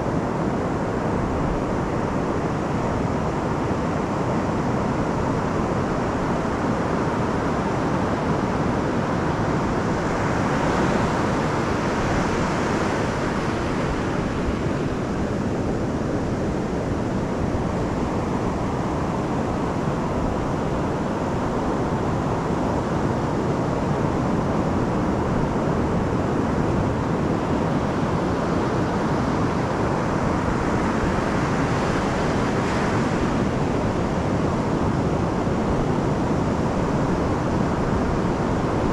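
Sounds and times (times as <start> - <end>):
surf waves breaking on beach: 0.0 - 38.9.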